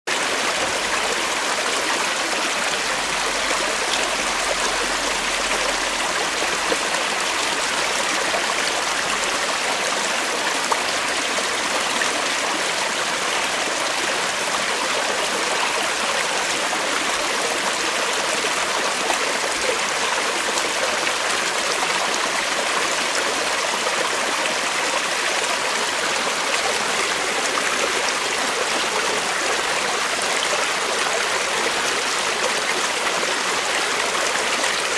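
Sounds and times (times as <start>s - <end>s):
creek water flowing over rocks: 0.1s - 34.9s.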